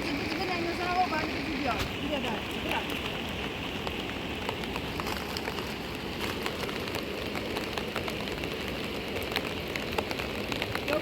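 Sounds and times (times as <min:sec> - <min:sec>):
rain drops ticking on surface: 0:00.0 - 0:11.0.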